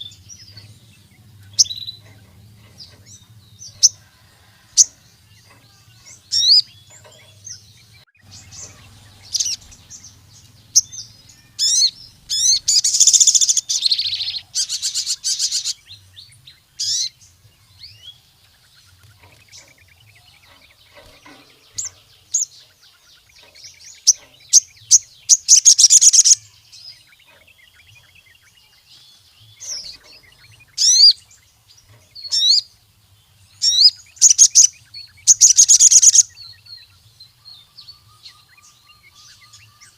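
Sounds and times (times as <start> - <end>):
bird singing with rapid trills: 0.0 - 39.9.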